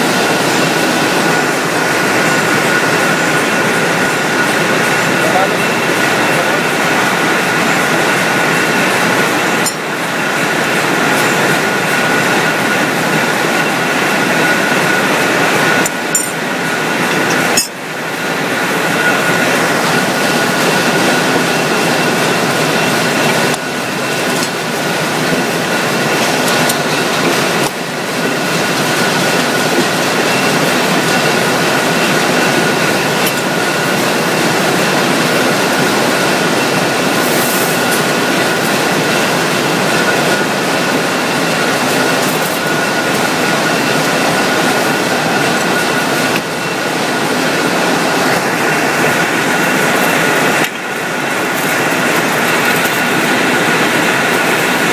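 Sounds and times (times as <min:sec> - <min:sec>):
high-pitched machine whine: 0:00.0 - 0:54.9
machine mechanical noise: 0:00.0 - 0:54.9.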